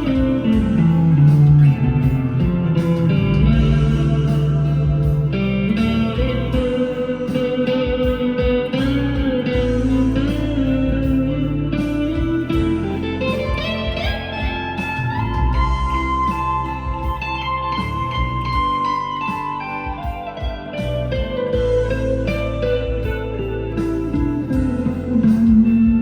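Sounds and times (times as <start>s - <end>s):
electric guitar lead line: 0.0s - 26.0s.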